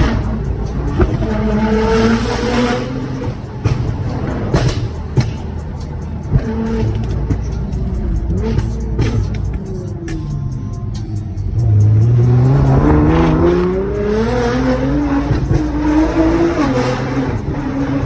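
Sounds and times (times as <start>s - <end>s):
sports car engine accelerating: 0.0s - 18.0s.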